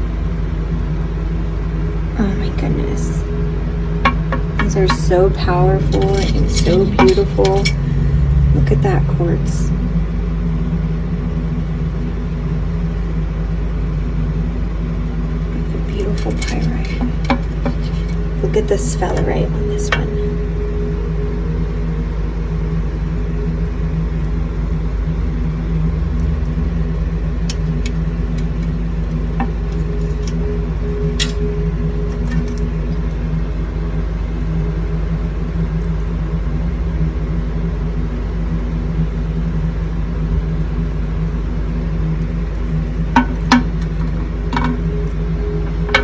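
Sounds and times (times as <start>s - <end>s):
low mechanical motor hum: 0.0s - 46.0s.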